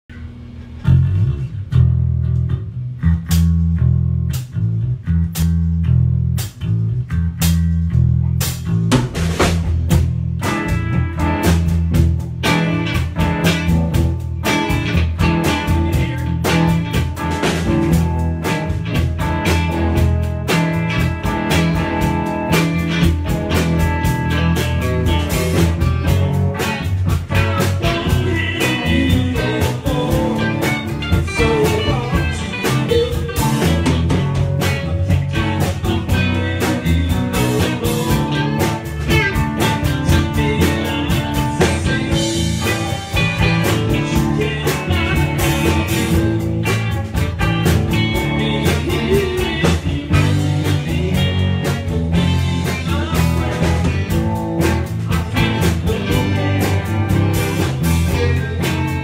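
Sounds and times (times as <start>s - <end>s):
electric bass line: 0.0s - 59.0s
drum kit: 0.1s - 59.0s
electric guitars: 0.6s - 59.0s.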